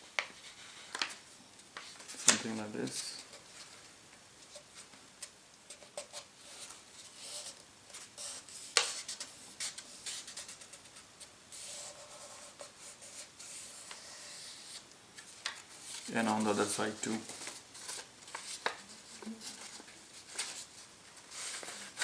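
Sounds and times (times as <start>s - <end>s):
paper rustling and crinkling: 0.1s - 1.2s, 1.8s - 11.0s, 13.4s - 22.0s.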